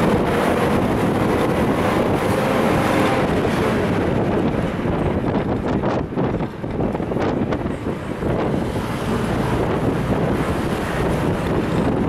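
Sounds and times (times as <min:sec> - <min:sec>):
air rushing through open window: 0:00.0 - 0:12.0
bus engine and road noise: 0:00.0 - 0:12.0.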